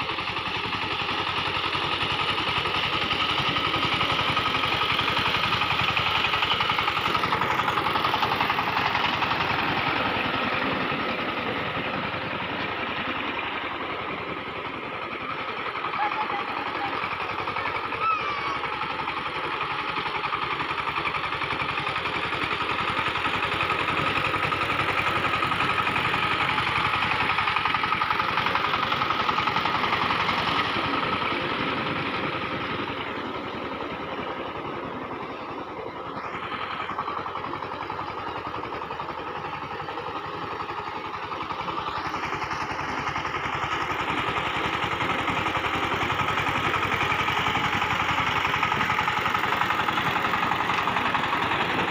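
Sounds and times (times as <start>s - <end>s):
diesel engine running: 0.0s - 51.9s
blades churning muddy water: 0.3s - 51.9s.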